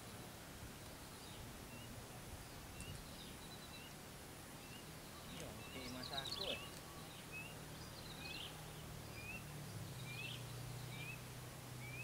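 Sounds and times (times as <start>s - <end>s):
outdoor background noise: 0.0s - 12.0s
faint bird chirps: 0.8s - 4.0s, 4.6s - 12.0s.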